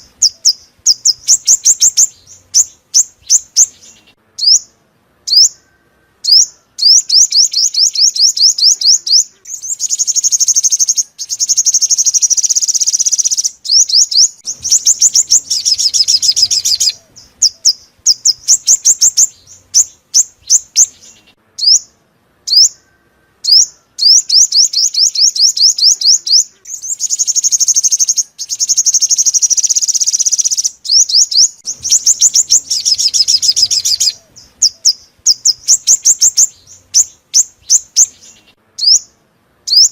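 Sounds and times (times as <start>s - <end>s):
sunbird trilled chirps: 0.0s - 39.9s.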